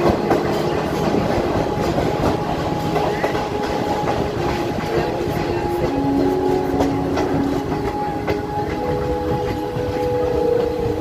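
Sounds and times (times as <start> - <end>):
faint steady tones: 0.0 - 11.0
rail joints clattering: 0.0 - 11.0
train wheels rumbling on rail: 0.0 - 11.0.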